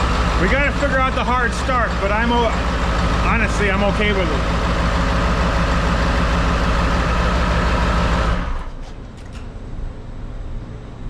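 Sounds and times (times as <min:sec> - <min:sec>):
diesel engine idling: 0:00.0 - 0:08.9.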